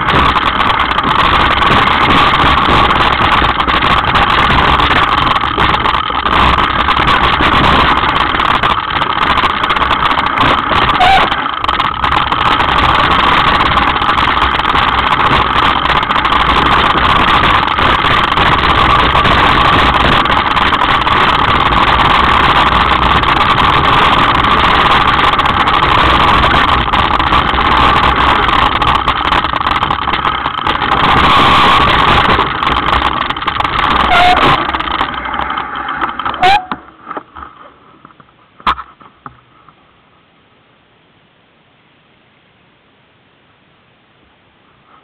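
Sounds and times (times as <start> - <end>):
bike frame juddering over stones: 0.0 - 39.8.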